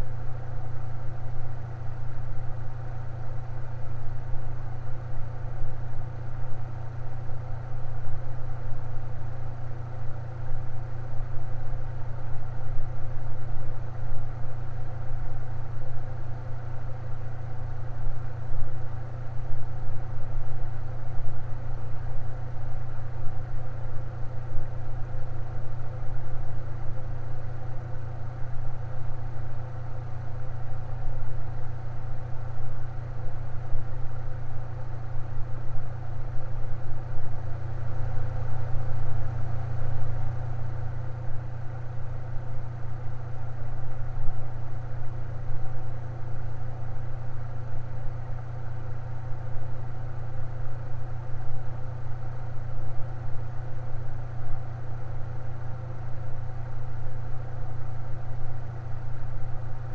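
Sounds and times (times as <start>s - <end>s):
electric fan humming: 0.0s - 59.9s.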